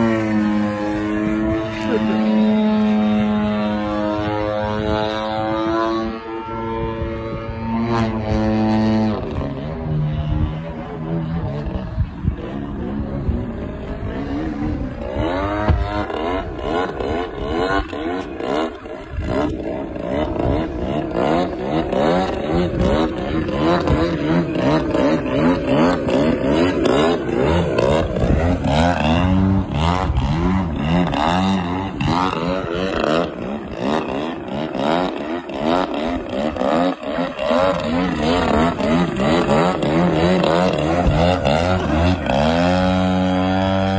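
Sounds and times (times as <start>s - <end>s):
model plane piston engine: 0.0s - 43.9s.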